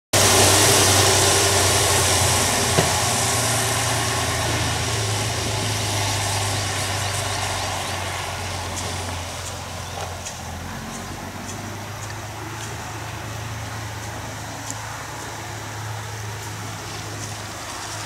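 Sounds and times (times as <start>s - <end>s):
vehicle engine humming: 0.2s - 18.0s.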